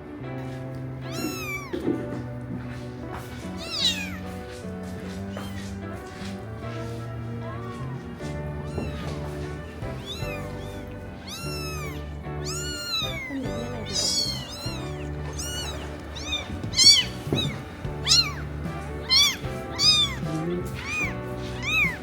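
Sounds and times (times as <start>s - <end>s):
kittens meowing: 1.0s - 22.0s.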